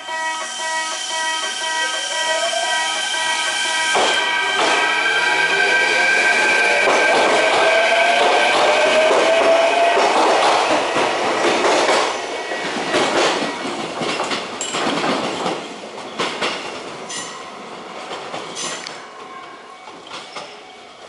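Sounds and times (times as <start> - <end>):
train wheels clacking: 0.6 - 19.0.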